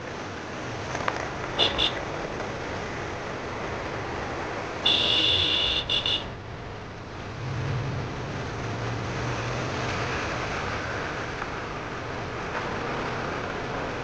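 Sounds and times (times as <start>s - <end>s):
wind and road rush: 0.0s - 14.0s.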